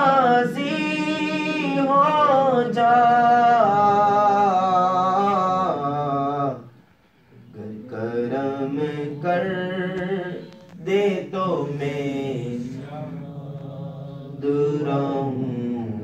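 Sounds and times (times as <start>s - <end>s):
man chanting: 0.0s - 6.7s, 7.5s - 16.0s.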